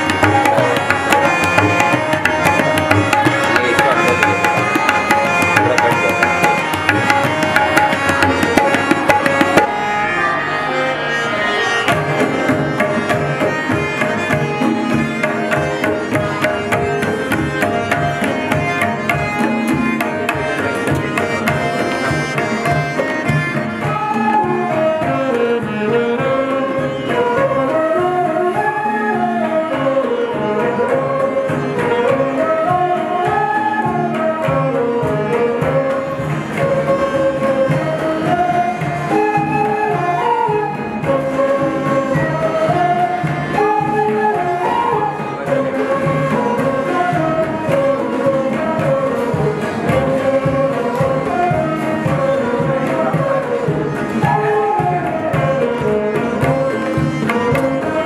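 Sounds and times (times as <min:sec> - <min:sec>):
bamboo flute melody: 0:00.0 - 0:58.0
tabla rhythm: 0:00.0 - 0:58.0.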